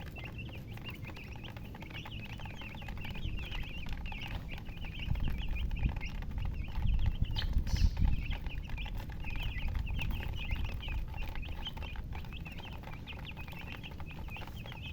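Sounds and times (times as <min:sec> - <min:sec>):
chicks peeping: 0:00.0 - 0:14.9.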